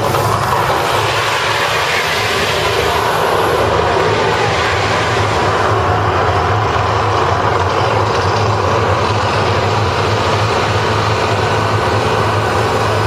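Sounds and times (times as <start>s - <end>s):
volcano effect rumble and roar: 0.0s - 13.0s.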